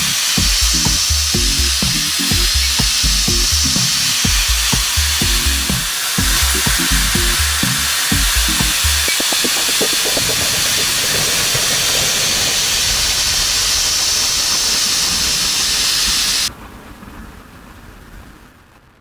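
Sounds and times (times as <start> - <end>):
milling machine cutting hiss: 0.0 - 16.5.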